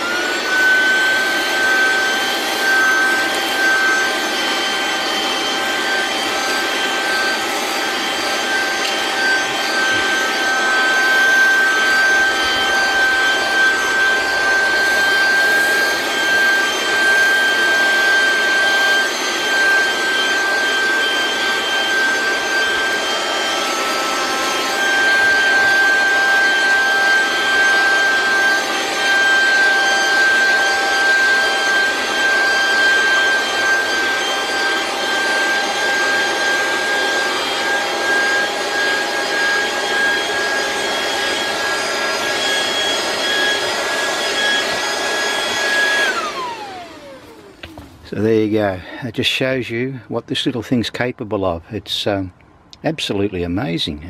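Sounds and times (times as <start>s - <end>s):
vacuum sucking up grit: 0.0s - 49.2s
handheld vacuum cleaner whining: 0.0s - 49.3s.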